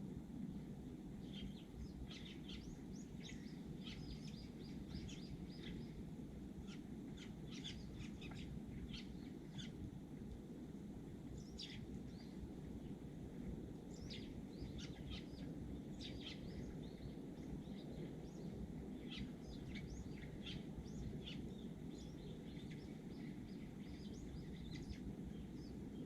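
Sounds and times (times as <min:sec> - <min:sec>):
low background rumble: 0:00.0 - 0:26.0
sparrows chirping: 0:01.2 - 0:06.0, 0:06.6 - 0:09.8, 0:11.4 - 0:12.4, 0:13.9 - 0:26.0.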